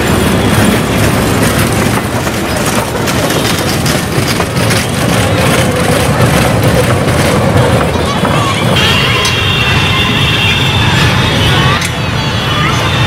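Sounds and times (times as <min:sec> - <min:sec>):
carriages clicking: 0:00.0 - 0:13.0.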